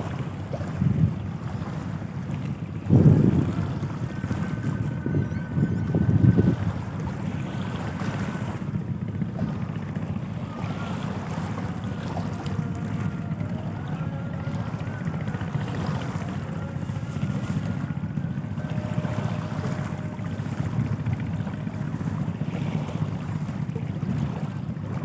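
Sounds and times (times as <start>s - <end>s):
ship engine rumble: 0.0s - 25.0s
wind buffeting microphone: 0.0s - 25.0s.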